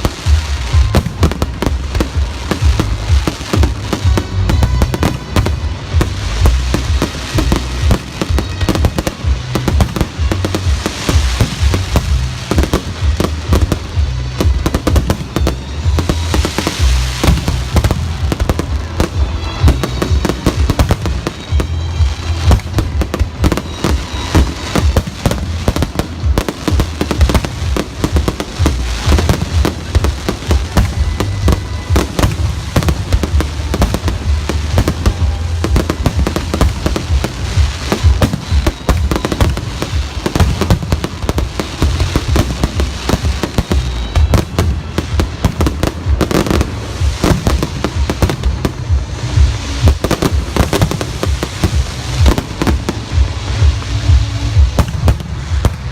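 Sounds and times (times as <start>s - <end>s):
fireworks bangs and crackles: 0.0s - 55.9s
music playing: 0.0s - 55.9s.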